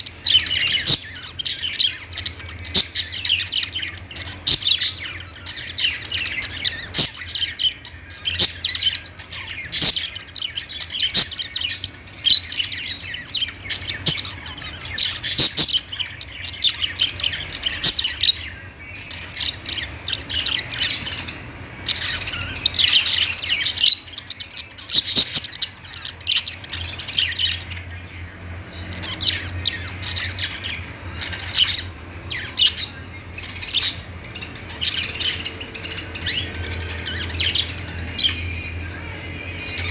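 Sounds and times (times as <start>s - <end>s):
parakeets chirping and chattering: 0.0s - 39.9s.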